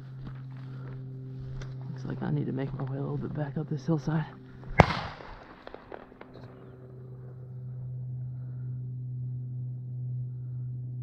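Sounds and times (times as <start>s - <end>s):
low-pitched hum: 0.0s - 11.0s.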